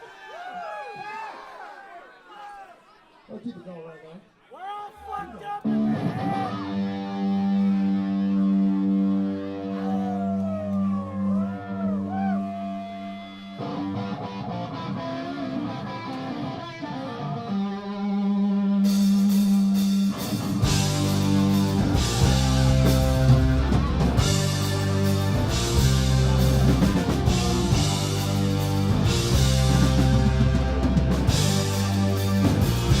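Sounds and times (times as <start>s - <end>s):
electric guitar: 5.7s - 33.0s
rock band playing: 5.7s - 33.0s.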